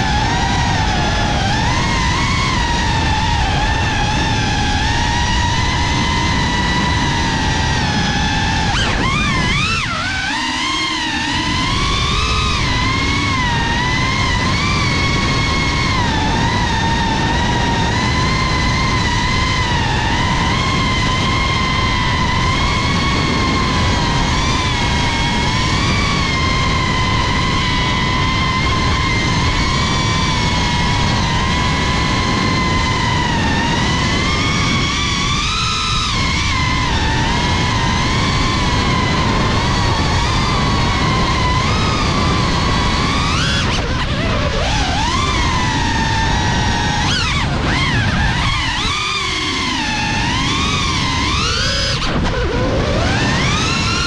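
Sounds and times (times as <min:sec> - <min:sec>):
drone motors high whine: 0:00.0 - 0:54.0
propeller rushing noise: 0:00.0 - 0:54.0.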